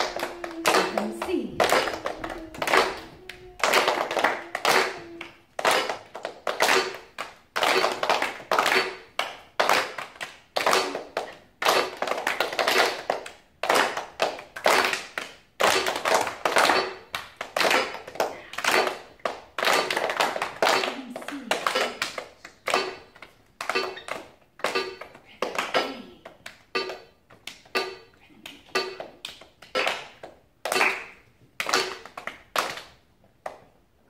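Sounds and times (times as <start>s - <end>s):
children clapping in rhythm: 0.0s - 34.0s.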